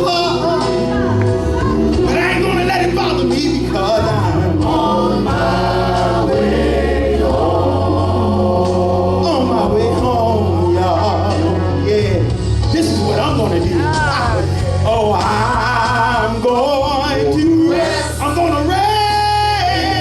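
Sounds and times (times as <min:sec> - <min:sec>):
choir singing gospel song: 0:00.0 - 0:20.0
low instrumental bass notes: 0:00.0 - 0:20.0.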